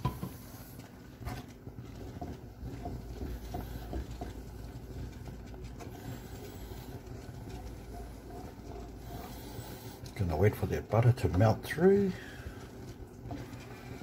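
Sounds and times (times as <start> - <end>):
wooden spoon stirring sauce in pan: 0.0 - 14.0.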